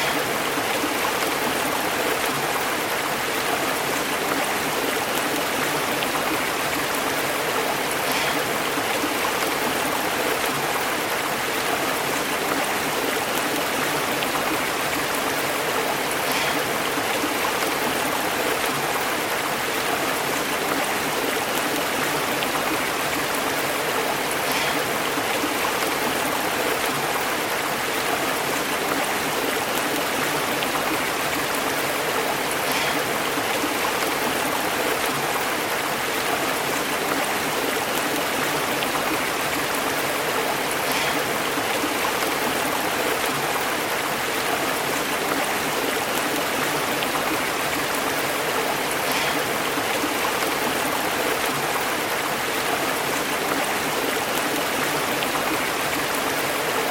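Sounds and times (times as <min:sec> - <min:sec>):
small water splashes: 0:00.0 - 0:56.9
stream burbling over rocks: 0:00.0 - 0:56.9.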